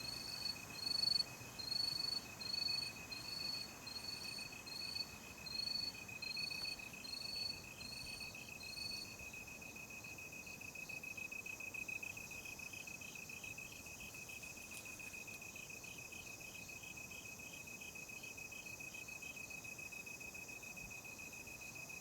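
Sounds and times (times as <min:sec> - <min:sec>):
insect higher chirp: 0:00.0 - 0:22.0.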